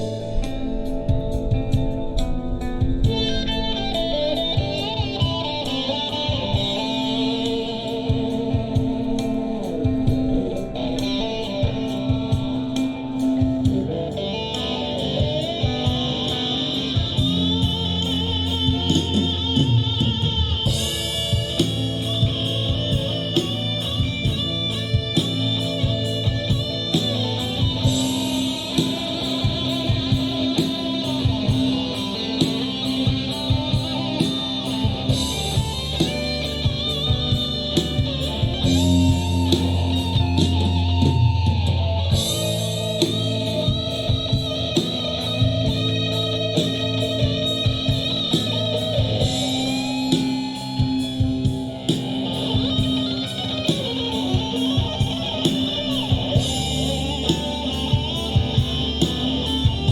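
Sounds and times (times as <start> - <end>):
electric guitar: 0.0 - 59.9
steady drum beat: 0.0 - 59.9.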